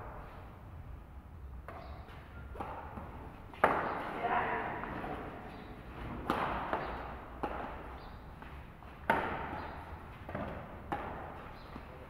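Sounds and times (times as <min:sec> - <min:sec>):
rackets hitting shuttlecock: 0:01.6 - 0:12.0.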